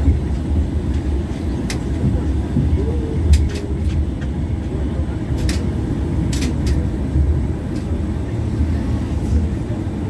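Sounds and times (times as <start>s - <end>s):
tram wheels rumbling on rail: 0.0s - 10.0s.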